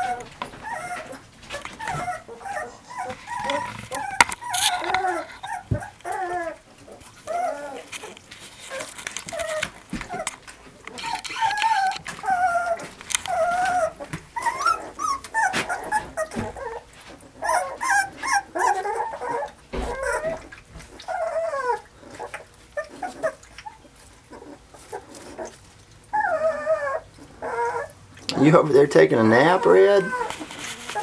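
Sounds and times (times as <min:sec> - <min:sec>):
puppies lapping from metal pan: 0:00.0 - 0:31.0
puppies whining and yipping: 0:00.0 - 0:31.0.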